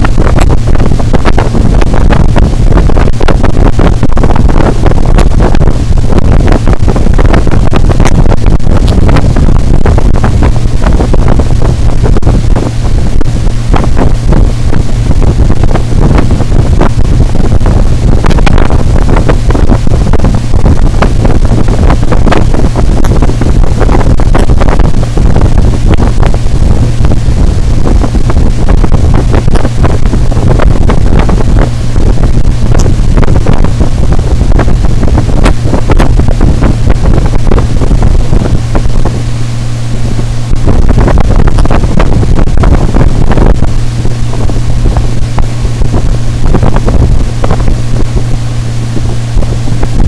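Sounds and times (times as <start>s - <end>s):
outboard motor drone: 0.0s - 50.0s
wind buffeting microphone: 0.0s - 50.0s.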